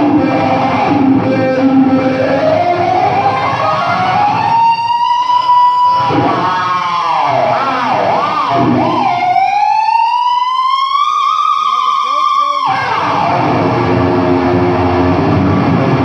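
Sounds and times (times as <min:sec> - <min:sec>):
electric guitar sliding lead note: 0:00.0 - 0:16.0.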